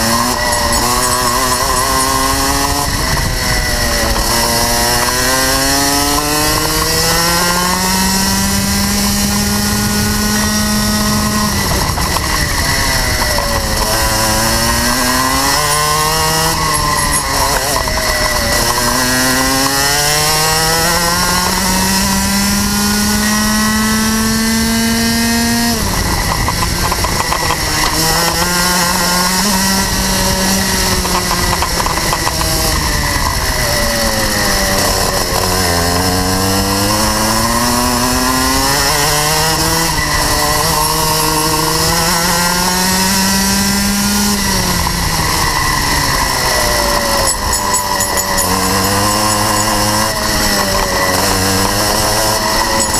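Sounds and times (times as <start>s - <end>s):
kart engine revving: 0.0s - 52.9s.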